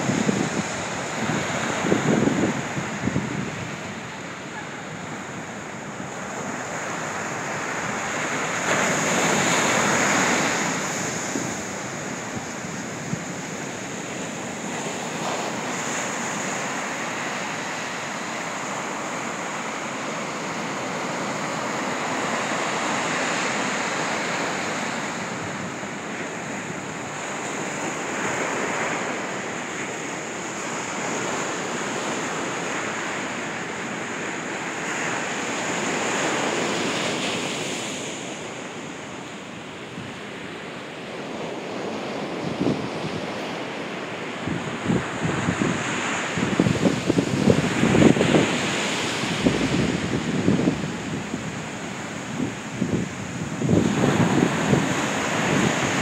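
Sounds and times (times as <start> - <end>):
sea waves breaking into surf: 0.0 - 56.0.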